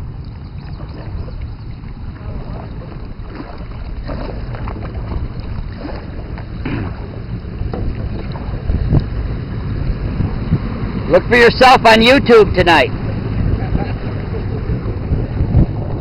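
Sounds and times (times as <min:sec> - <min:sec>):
boat engine rumble: 0:00.0 - 0:16.0
wind buffeting microphone: 0:00.0 - 0:16.0.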